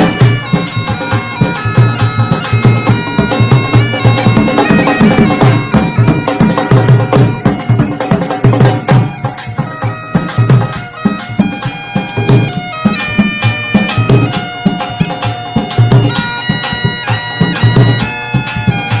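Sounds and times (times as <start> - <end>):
reedy wind instrument melody: 0.0 - 19.0
steady drum beat: 0.0 - 19.0.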